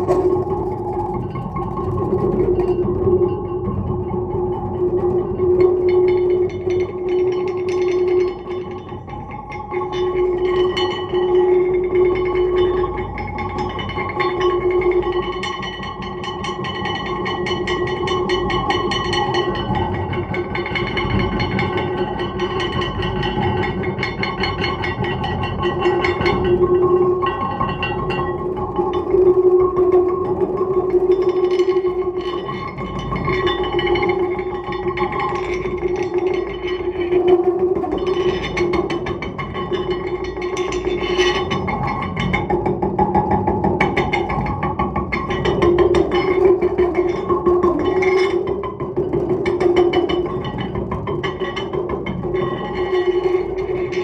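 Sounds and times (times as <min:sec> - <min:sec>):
stone plates ringing: 0:00.0 - 0:54.0.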